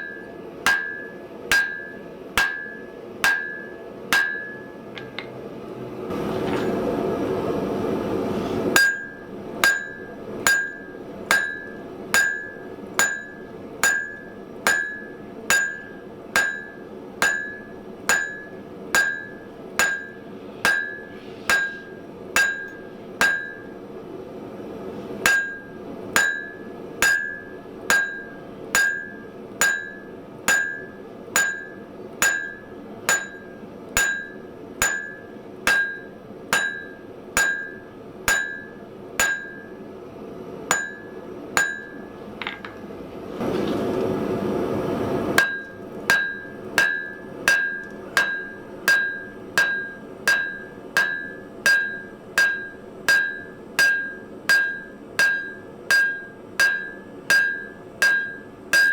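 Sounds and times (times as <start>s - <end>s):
hammer striking steel on anvil: 0.0s - 5.4s, 6.4s - 6.9s, 8.8s - 23.8s, 25.2s - 39.9s, 40.7s - 42.9s, 45.4s - 58.9s.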